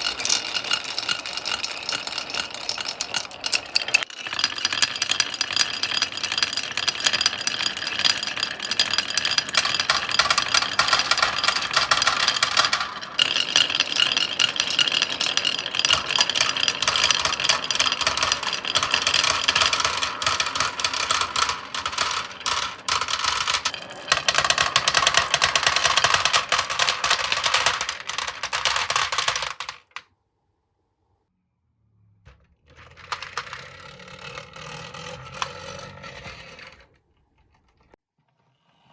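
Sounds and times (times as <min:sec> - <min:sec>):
marbles rattling down wooden track: 0:00.0 - 0:30.0, 0:32.8 - 0:36.4.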